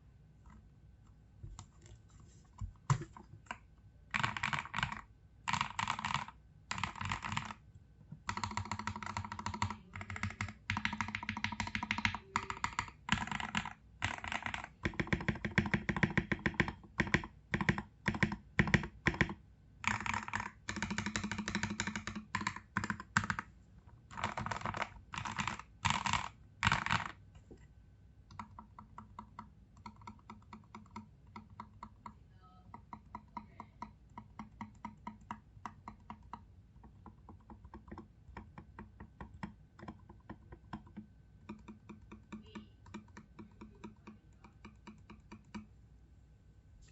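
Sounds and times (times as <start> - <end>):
typing on mechanical keyboard: 2.9 - 27.3, 28.3 - 45.7.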